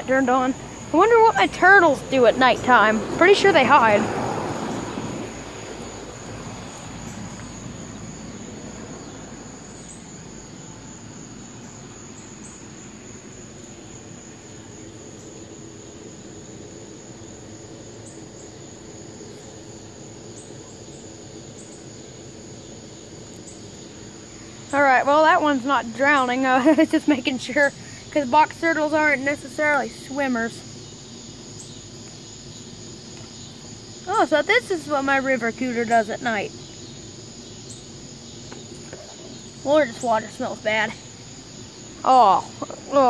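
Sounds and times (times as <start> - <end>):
night insects chorus: 0.0 - 43.0.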